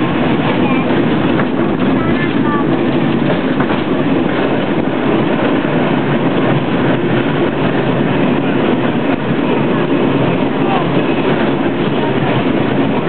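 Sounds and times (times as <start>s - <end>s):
tram wheels on rails: 0.0s - 13.0s.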